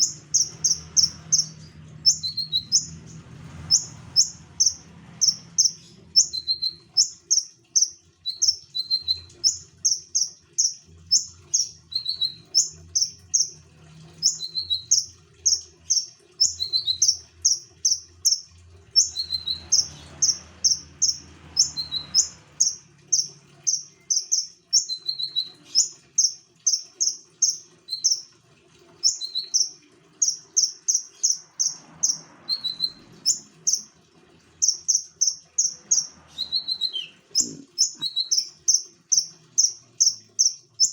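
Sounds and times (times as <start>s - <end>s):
songbird singing: 0.0s - 13.6s, 14.2s - 28.3s, 29.0s - 40.9s.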